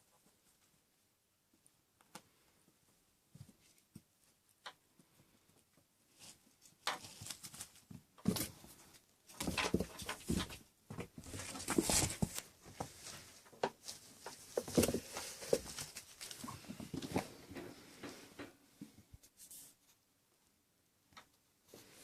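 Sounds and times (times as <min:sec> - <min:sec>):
kittens scuffling and pattering: 0:00.0 - 0:20.0.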